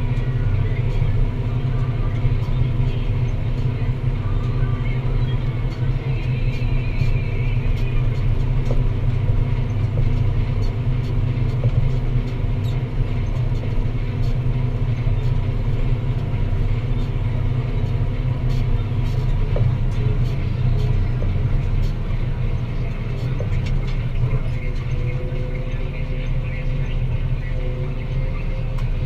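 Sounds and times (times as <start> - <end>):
tractor diesel engine droning: 0.0 - 29.0.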